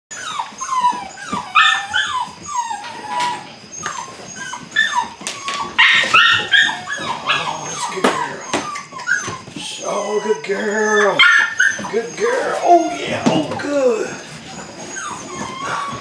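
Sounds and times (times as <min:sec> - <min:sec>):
puppies yipping and whining: 0:00.1 - 0:16.0.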